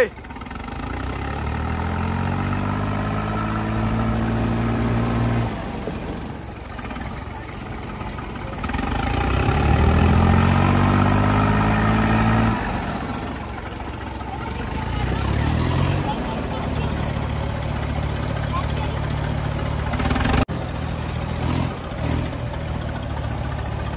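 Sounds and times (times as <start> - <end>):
tractor diesel engine revving: 0.0 - 23.9.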